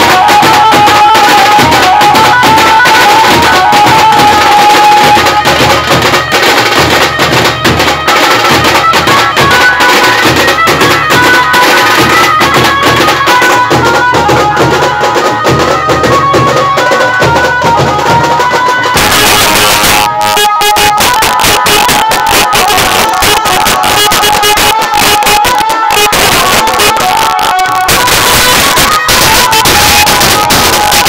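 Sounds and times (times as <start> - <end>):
brass band playing fast: 0.0 - 31.0
high reedy melody: 0.0 - 31.0
side drums and bass drum: 0.0 - 31.0.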